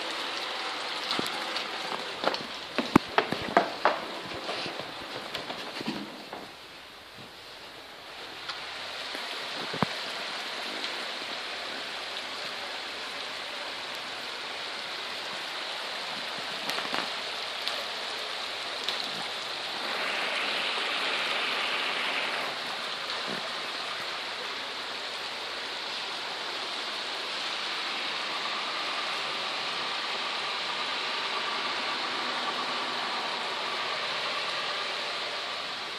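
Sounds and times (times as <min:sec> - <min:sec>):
heavy rain: 0:00.0 - 0:35.9
runoff water rushing over ground: 0:00.0 - 0:35.9.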